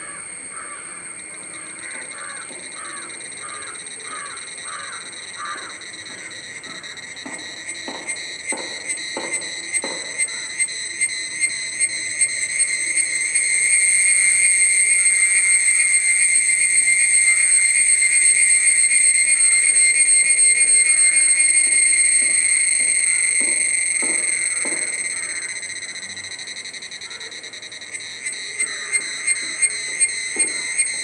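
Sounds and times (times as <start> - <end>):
cicadas buzzing: 0.0 - 31.0.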